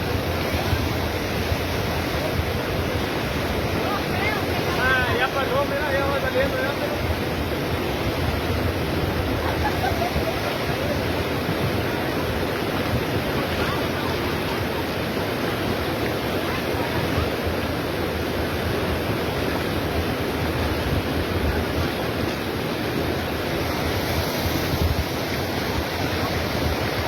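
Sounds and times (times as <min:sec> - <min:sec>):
river rushing in flood: 0:00.0 - 0:27.0.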